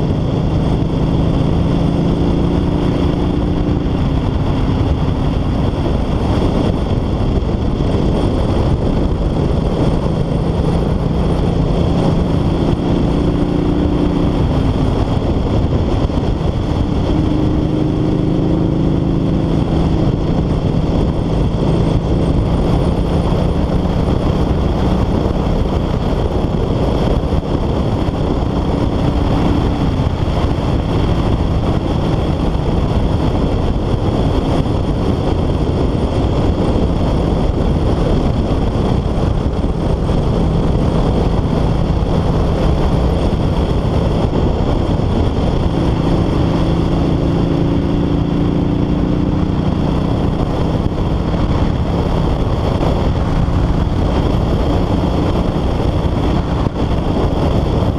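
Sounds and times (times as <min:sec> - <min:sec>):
motorcycle engine running: 0:00.0 - 0:57.9
wind and road noise: 0:00.0 - 0:57.9.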